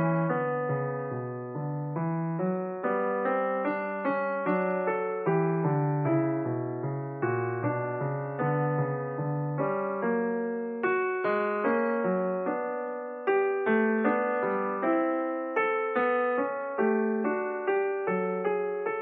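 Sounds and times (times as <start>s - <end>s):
calm electric piano melody: 0.0s - 19.0s.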